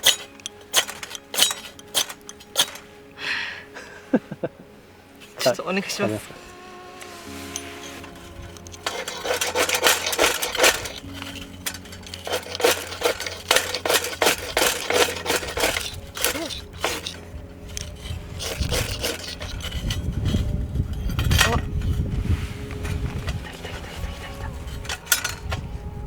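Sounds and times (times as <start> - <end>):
fire-starter rod scraping: 0.0 - 3.2, 5.0 - 26.0
background music with held tones: 0.0 - 26.0.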